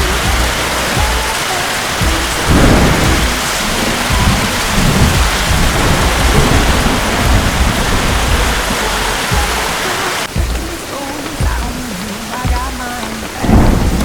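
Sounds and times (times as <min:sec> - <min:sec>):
heavy rain: 0:00.0 - 0:14.0
thunder rumbling: 0:00.0 - 0:14.0.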